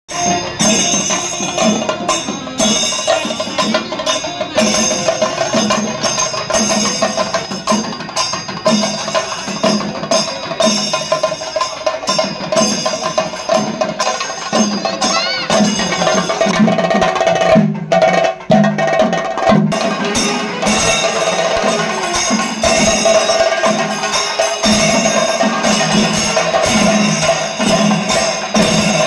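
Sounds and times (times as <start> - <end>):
steady drum beat: 0.1 - 29.0.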